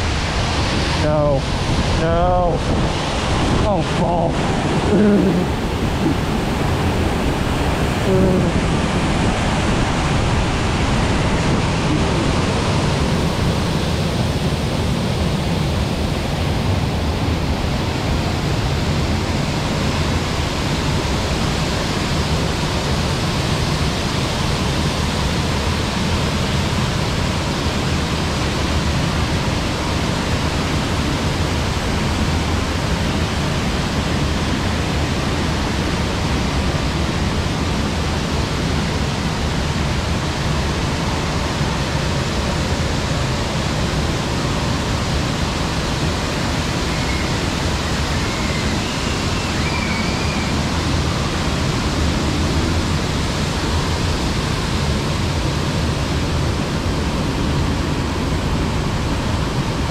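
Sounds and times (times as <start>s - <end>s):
rushing waterfall: 0.0s - 59.9s.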